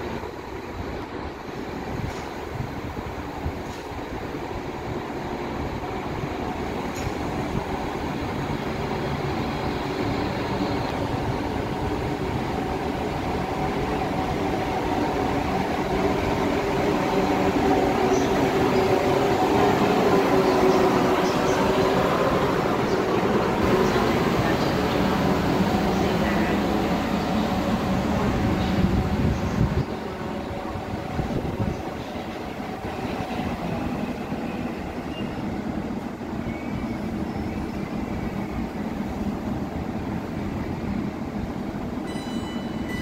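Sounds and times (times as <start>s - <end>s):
train wheel rumble: 0.0s - 43.0s.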